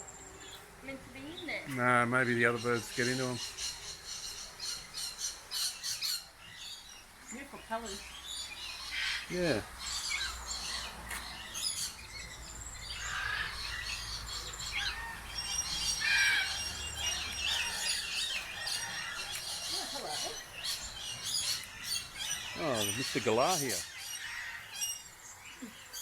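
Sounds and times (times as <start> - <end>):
birds chirping and squawking: 0.0 - 26.0.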